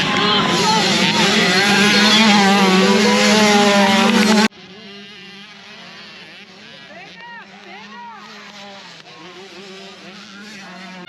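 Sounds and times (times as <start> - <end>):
dirt bike engines racing: 0.0 - 11.0
steady engine drone: 0.0 - 11.0.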